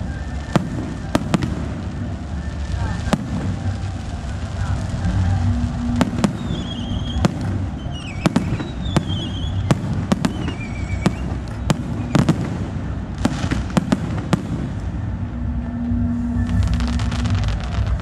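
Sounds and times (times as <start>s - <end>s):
firework bangs: 0.0s - 18.0s
firework whistles: 0.0s - 18.0s
low rumble: 0.0s - 18.0s.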